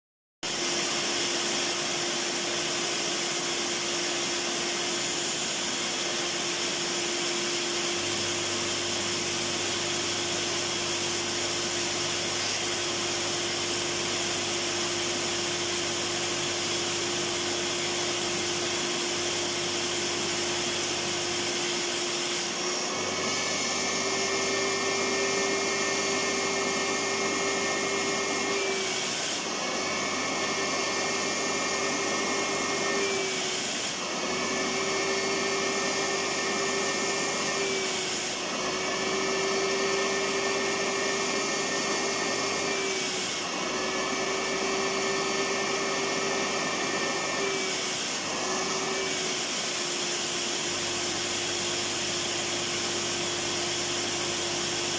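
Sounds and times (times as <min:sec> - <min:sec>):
vacuum cleaner motor running: 0:00.4 - 0:54.9.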